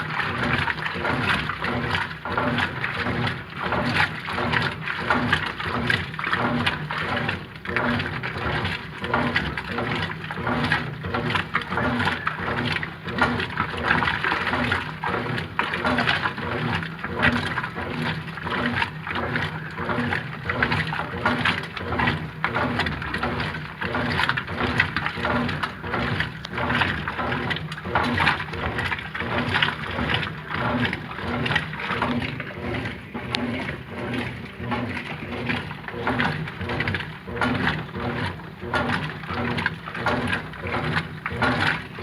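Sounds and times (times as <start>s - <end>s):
pulsing motor hum: 0.0s - 42.0s
washing machine agitating: 0.0s - 42.0s
water sloshing in tub: 0.0s - 42.0s.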